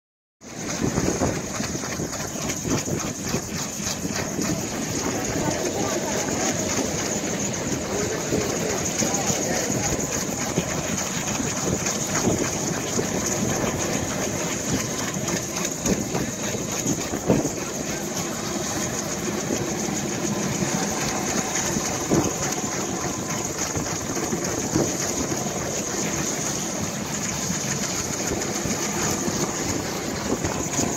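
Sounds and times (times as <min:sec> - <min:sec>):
broad rushing noise: 0:00.4 - 0:30.9
helicopter turbine whine: 0:00.4 - 0:30.9.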